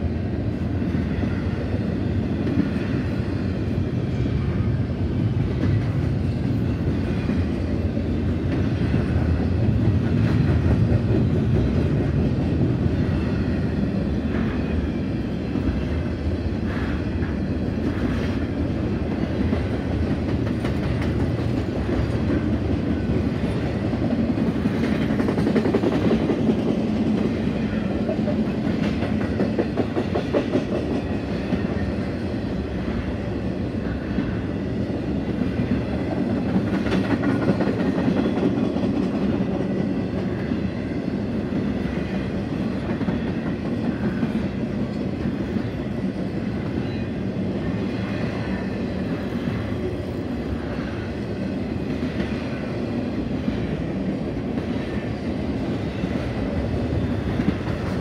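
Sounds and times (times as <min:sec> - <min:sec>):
freight train wheels rumbling on rail: 0:00.0 - 0:58.0
clickety-clack over rail joints: 0:00.5 - 0:47.0, 0:47.8 - 0:58.0.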